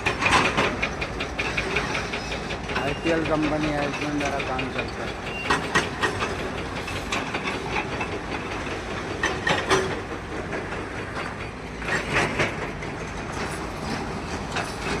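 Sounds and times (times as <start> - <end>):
heavy machinery rumble: 0.0 - 15.0.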